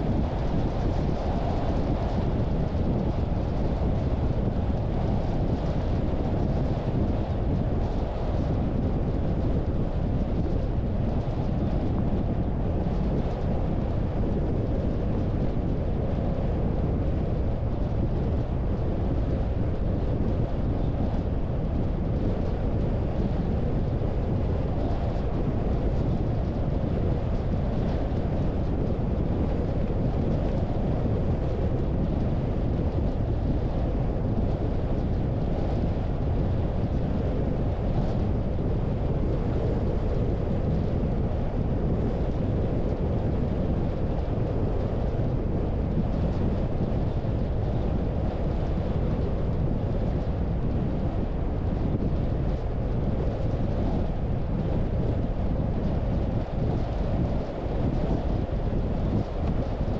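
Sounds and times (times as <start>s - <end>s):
car road and wind noise: 0.0s - 59.9s.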